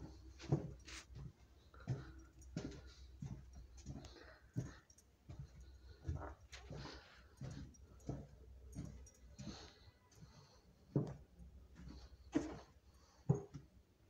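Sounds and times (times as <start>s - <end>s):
footsteps on hallway floor: 0.0s - 13.7s.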